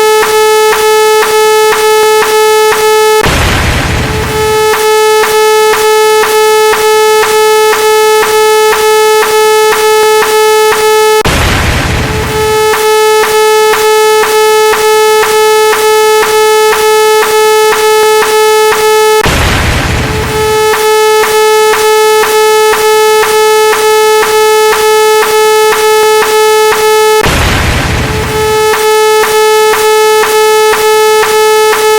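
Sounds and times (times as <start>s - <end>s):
burst of noise: 0.0s - 31.9s
pulsing electronic buzzer tone: 0.0s - 31.9s.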